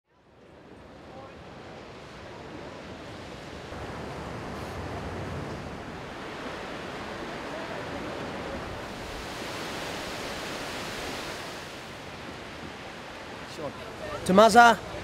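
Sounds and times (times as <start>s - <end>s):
ocean surf breaking on beach: 0.3s - 15.0s.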